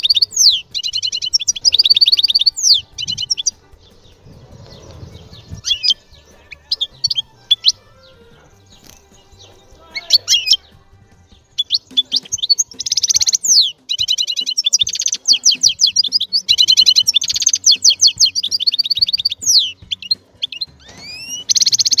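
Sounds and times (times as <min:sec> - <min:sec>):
finch singing trills: 0:00.0 - 0:22.0.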